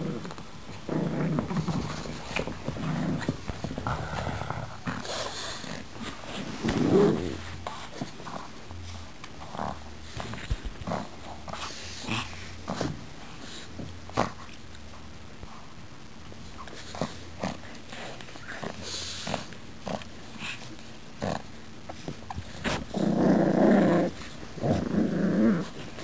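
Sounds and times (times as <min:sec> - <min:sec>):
dogs growling: 0:00.0 - 0:14.6, 0:16.6 - 0:26.0.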